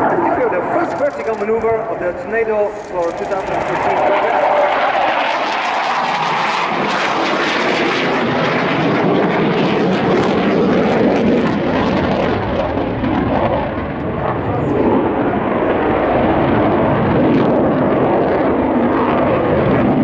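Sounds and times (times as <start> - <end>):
jet engines in flight: 0.0 - 20.0.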